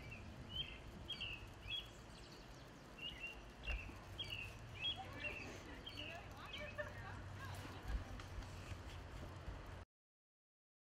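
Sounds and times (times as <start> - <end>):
low steady background rumble: 0.0 - 9.8.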